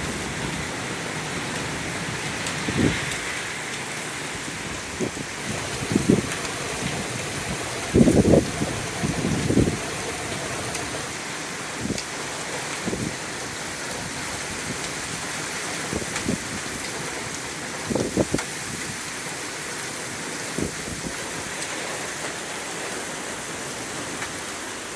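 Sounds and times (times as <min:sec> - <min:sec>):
heavy rain pouring: 0:00.0 - 0:24.9.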